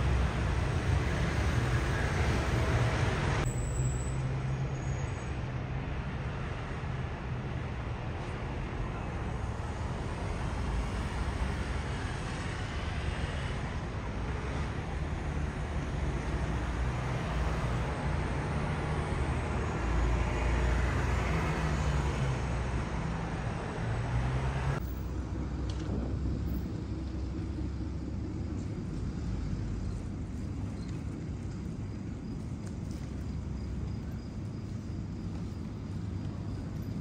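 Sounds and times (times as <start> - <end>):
open-air ambience: 0.0 - 37.0
traffic noise: 0.0 - 37.0.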